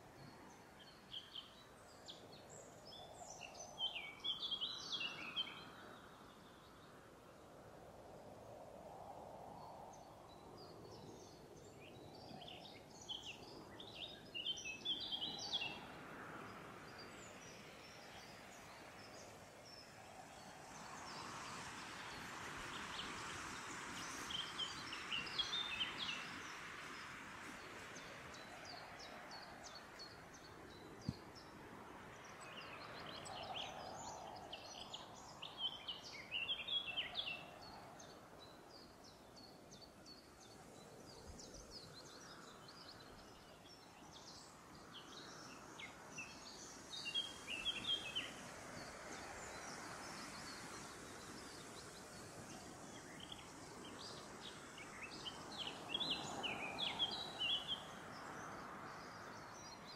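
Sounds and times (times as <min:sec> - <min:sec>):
songbirds singing: 0:00.0 - 0:07.5, 0:09.0 - 0:59.9.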